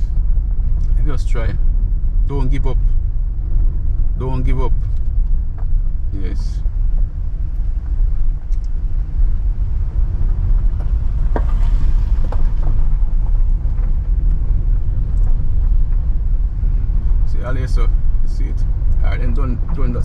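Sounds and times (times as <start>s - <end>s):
tyres rumbling on rough road: 0.0s - 20.0s
car knocks and rattles: 2.8s - 6.1s, 6.7s - 20.0s.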